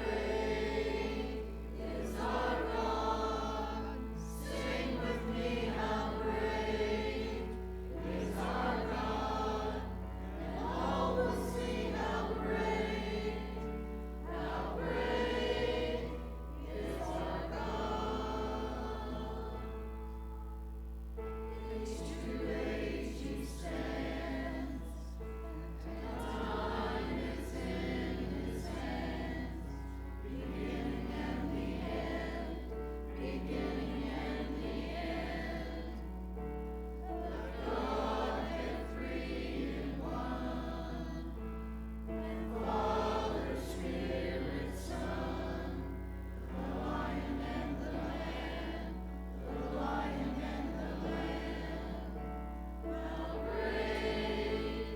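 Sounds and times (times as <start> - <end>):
congregation singing a hymn: 0.0 - 54.9.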